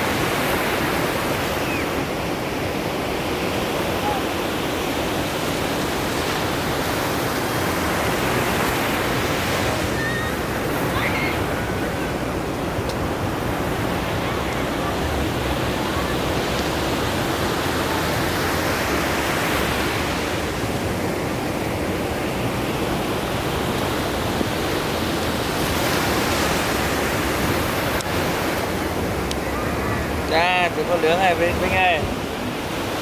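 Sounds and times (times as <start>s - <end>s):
ocean waves washing: 0.0s - 33.0s.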